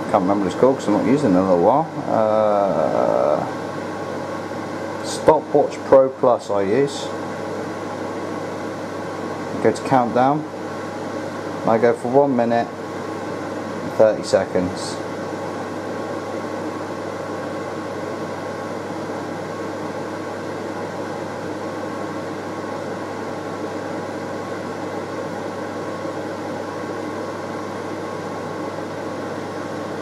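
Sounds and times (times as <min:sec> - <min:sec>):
extractor fan running: 0:00.0 - 0:30.0.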